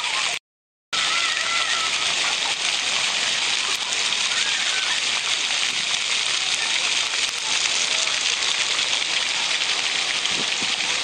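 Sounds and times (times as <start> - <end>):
fountain water splashing: 0.0 - 0.4, 1.0 - 11.0
faint voices: 1.0 - 11.0.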